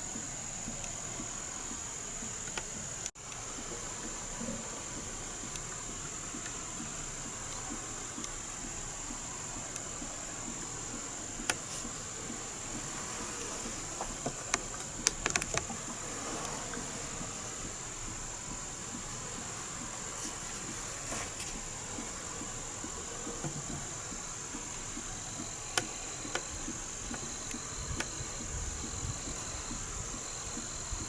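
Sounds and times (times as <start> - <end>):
high-pitched insect trill: 0.0 - 31.0
rain hiss: 0.0 - 31.0.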